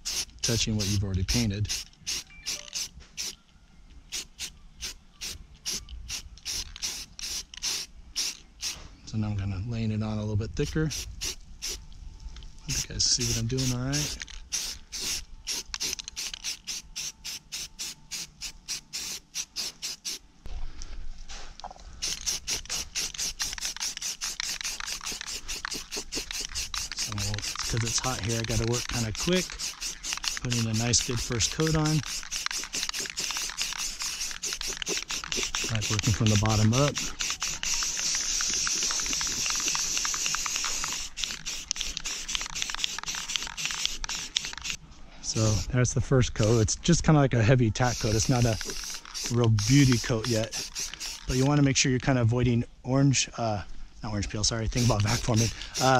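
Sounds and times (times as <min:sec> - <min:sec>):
spray paint can hissing in bursts: 0:00.0 - 0:03.4, 0:04.1 - 0:08.8, 0:10.6 - 0:11.8, 0:12.7 - 0:20.2, 0:22.0 - 0:44.8, 0:45.4 - 0:45.7, 0:47.8 - 0:51.6, 0:54.7 - 0:55.9.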